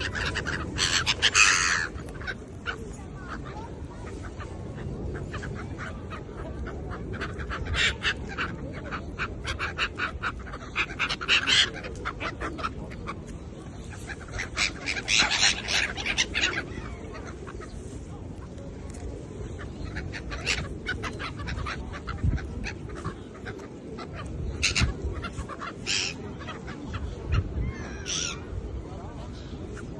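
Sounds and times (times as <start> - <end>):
birds calling: 0.0 - 29.9
low background noise: 0.0 - 29.9.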